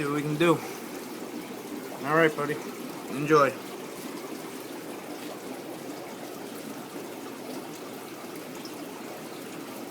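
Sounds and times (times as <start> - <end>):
aquarium water trickling: 0.0 - 9.9.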